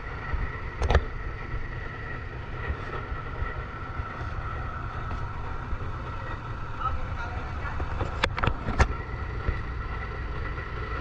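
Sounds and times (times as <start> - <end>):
faint steady whine: 0.0 - 11.0
truck engine rumbling: 0.0 - 11.0.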